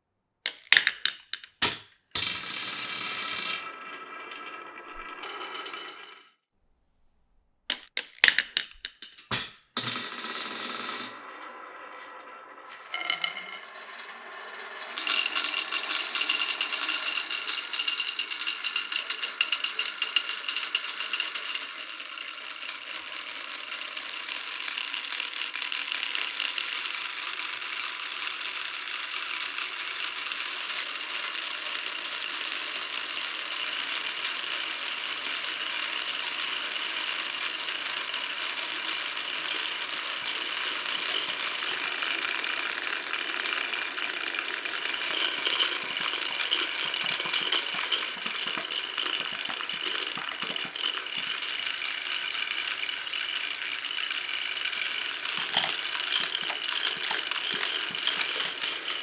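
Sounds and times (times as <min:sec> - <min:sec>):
glass marbles rolling and clattering: 0:00.5 - 0:06.3, 0:07.7 - 0:59.0.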